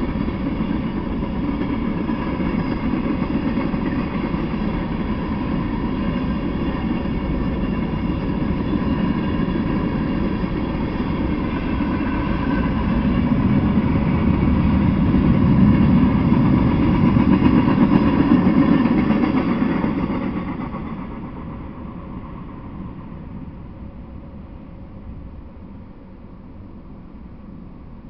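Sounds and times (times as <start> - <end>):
freight train rolling on rails: 0.0 - 28.0.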